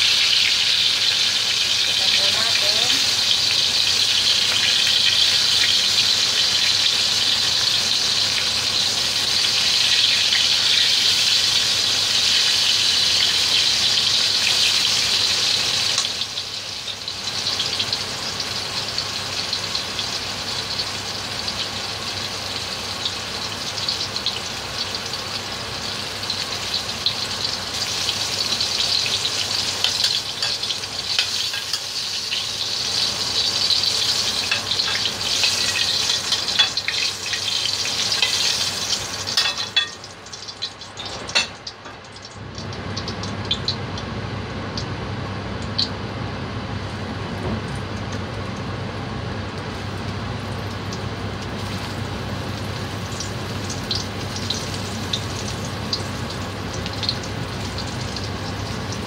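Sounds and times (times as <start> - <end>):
oil sizzling and crackling: 0.0 - 59.0.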